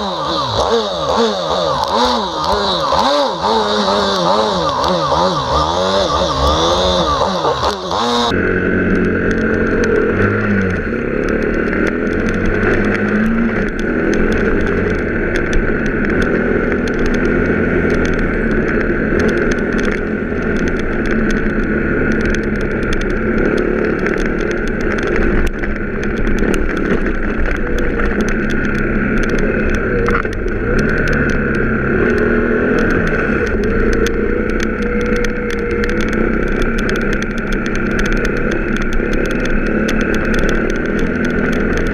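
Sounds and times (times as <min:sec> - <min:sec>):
motocross bike engine running: 0:00.0 - 0:41.9.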